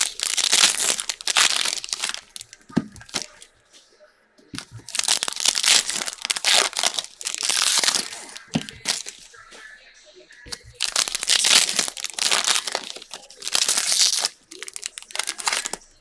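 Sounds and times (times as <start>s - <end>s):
foil wrappers tearing and crinkling: 0.0s - 3.4s, 4.6s - 9.3s, 10.5s - 15.9s.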